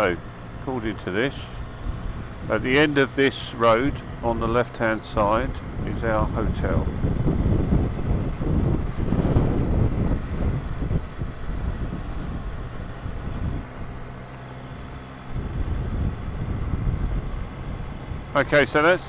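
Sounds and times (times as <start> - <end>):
motorcycle engine: 0.0 - 19.0
wind rumble on microphone: 0.0 - 19.0.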